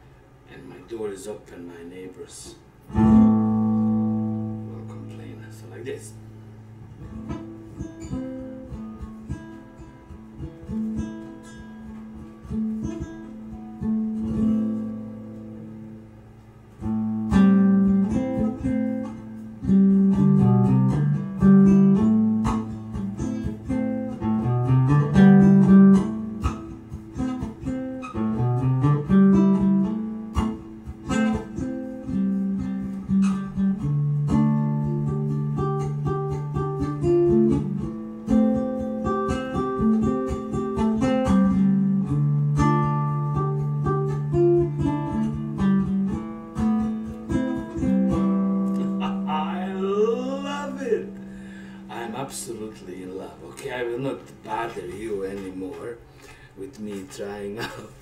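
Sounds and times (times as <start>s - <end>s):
amplified guitalele playing: 2.8s - 57.0s.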